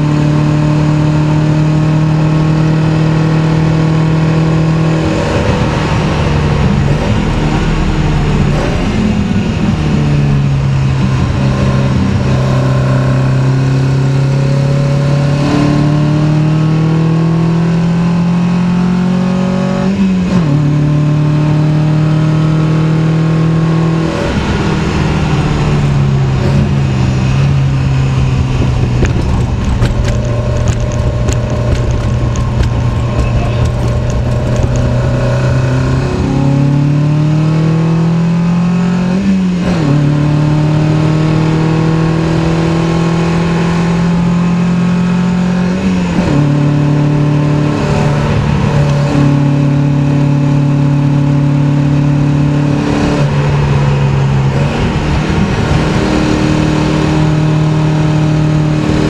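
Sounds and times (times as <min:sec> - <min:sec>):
car engine pulling hard: 0:00.0 - 0:59.0.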